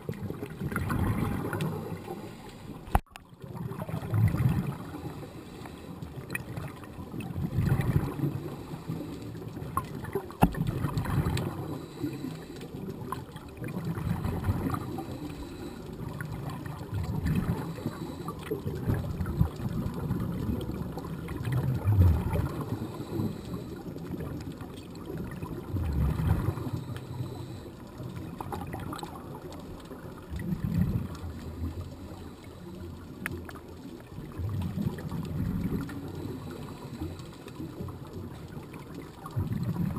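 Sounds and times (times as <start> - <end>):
underwater bubbles gurgling: 0.0 - 39.9
underwater water wash: 0.0 - 39.9.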